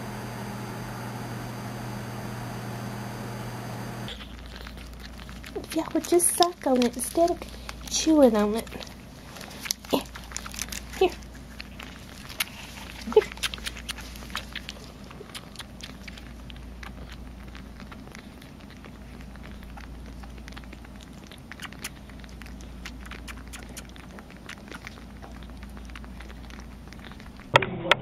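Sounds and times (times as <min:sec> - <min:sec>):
low steady hum: 0:00.0 - 0:28.0
kittens sucking wet clicks: 0:02.0 - 0:27.6.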